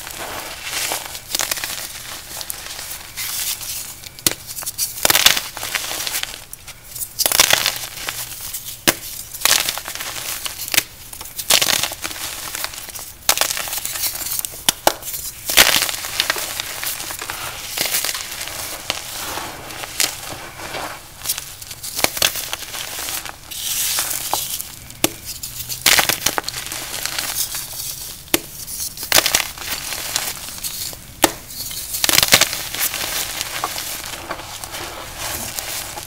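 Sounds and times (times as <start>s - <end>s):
powdery blocks crunching: 0.0s - 6.5s, 7.2s - 36.0s.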